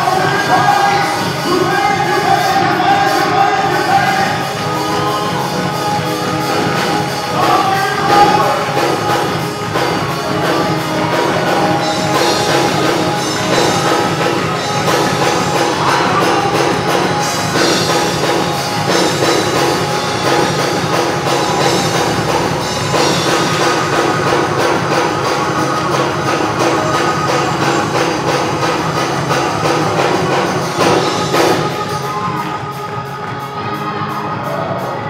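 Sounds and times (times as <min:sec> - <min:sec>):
church music with singing: 0:00.0 - 0:35.0.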